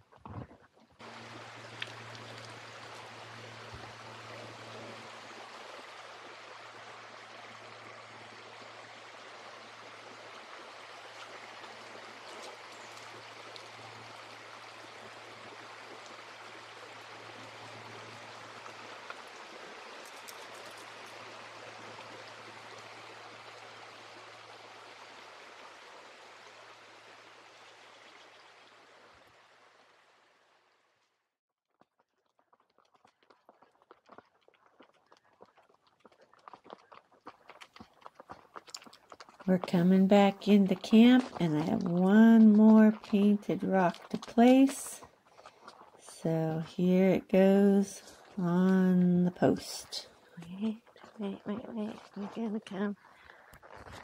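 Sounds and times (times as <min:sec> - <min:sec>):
flowing stream water: 0:00.9 - 0:31.0, 0:36.0 - 0:54.0.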